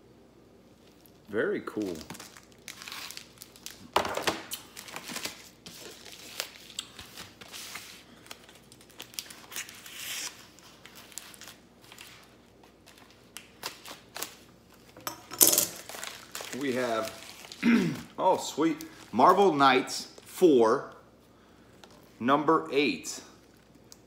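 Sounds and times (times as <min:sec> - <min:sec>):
plastic packaging crinkling: 0:00.8 - 0:15.0, 0:15.7 - 0:20.4, 0:23.3 - 0:24.0.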